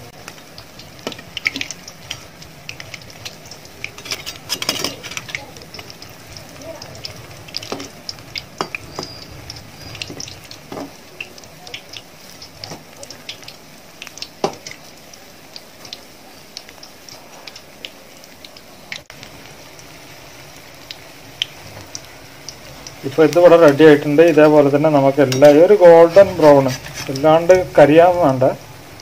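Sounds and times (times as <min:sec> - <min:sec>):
fritters sizzling in hot oil: 0:00.0 - 0:29.0.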